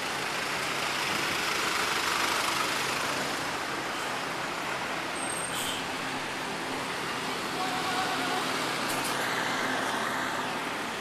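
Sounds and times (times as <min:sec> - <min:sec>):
car and bus engines: 0:00.0 - 0:11.0
tyre noise of passing vehicles: 0:00.0 - 0:11.0.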